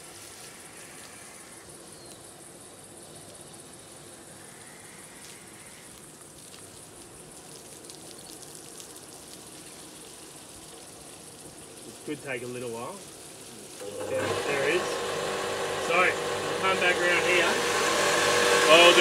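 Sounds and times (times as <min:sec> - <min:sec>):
hose water splashing on grass: 0:00.0 - 0:01.7, 0:05.1 - 0:19.0
insects buzzing: 0:00.0 - 0:19.0.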